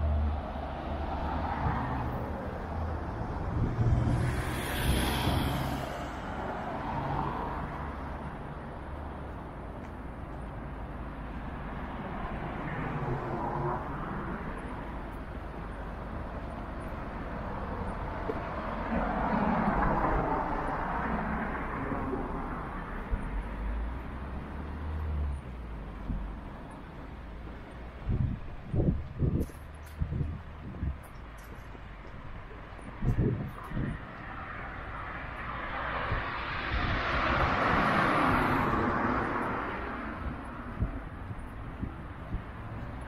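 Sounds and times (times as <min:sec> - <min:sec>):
low traffic rumble: 0:00.0 - 0:43.0
vehicles passing: 0:00.0 - 0:43.0.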